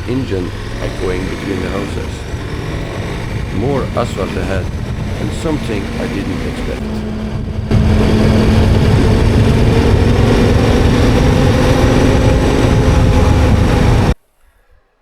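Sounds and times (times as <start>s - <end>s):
motorcycle engine running: 0.0s - 14.2s
road noise rushing: 0.0s - 14.2s.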